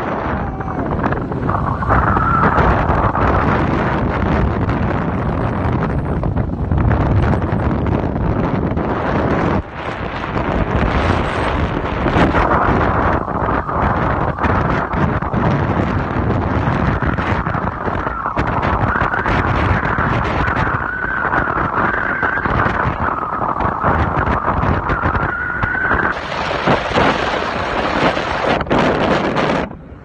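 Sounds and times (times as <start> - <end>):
thin wavering whine: 0.0 - 7.9, 9.4 - 28.6
wind buffeting microphone: 0.0 - 30.0.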